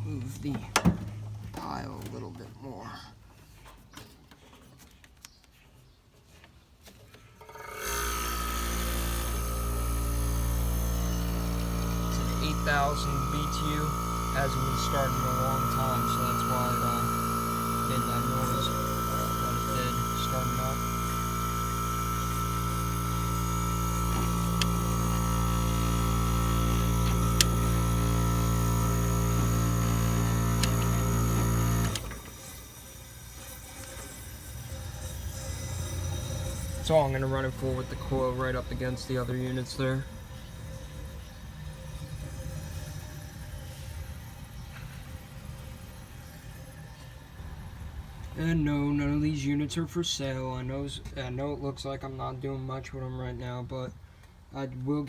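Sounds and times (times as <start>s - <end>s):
air conditioner humming and whining: 6.8s - 55.0s.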